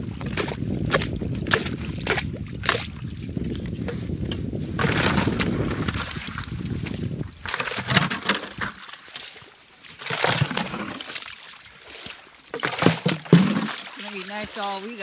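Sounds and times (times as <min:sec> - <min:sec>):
bucket scooping slush: 0:00.0 - 0:15.0
slush and ice sloshing: 0:00.0 - 0:15.0
ice chisel in slush: 0:00.1 - 0:03.0, 0:04.7 - 0:15.0.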